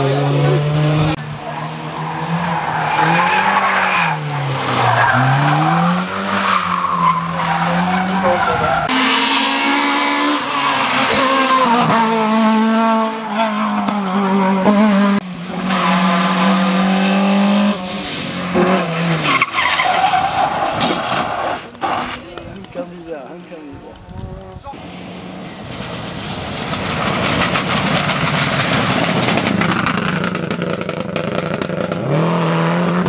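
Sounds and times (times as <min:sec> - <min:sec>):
rally car engine revving: 0:00.0 - 0:22.9, 0:23.8 - 0:33.0.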